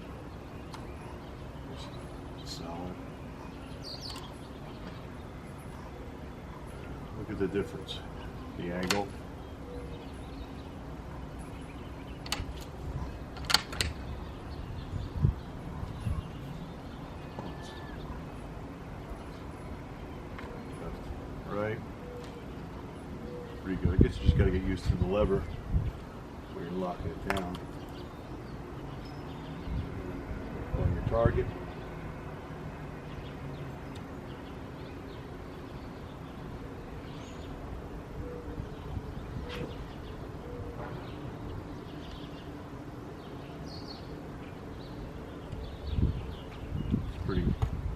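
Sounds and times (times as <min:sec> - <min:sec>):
birds chirping: 0:00.0 - 0:47.9
low outdoor background noise: 0:00.0 - 0:47.9.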